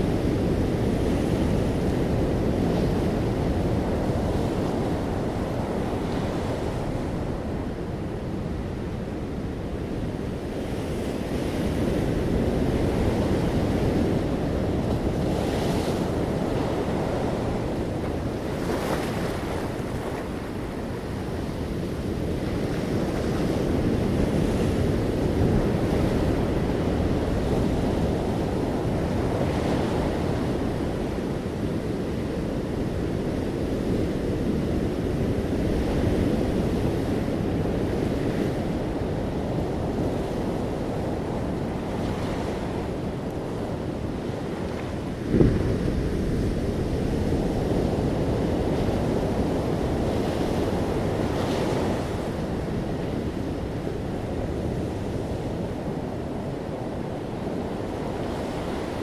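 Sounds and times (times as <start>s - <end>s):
surf washing over rocks: 11.1s - 59.0s.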